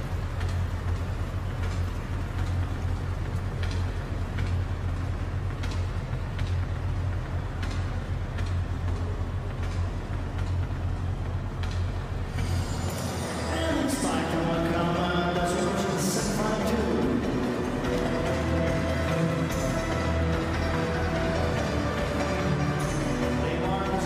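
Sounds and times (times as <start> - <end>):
low rumble of indoor pool: 0.0 - 24.0.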